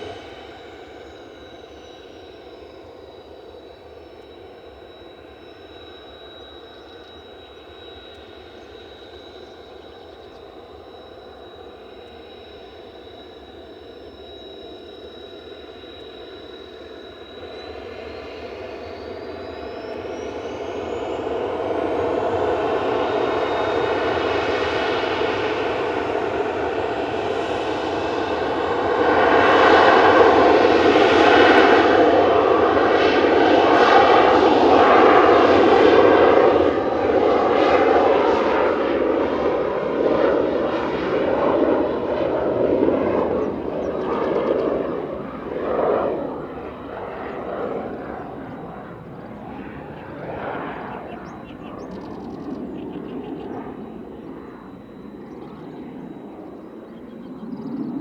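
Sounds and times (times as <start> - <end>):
jet aircraft engine: 0.0 - 58.0.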